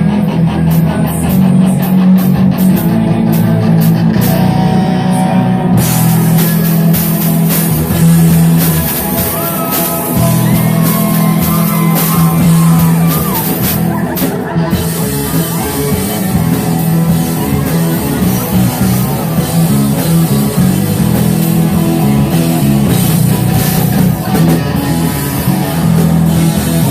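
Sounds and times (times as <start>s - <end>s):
drum kit: 0.0s - 26.9s
electric guitar with bent notes: 0.0s - 26.9s.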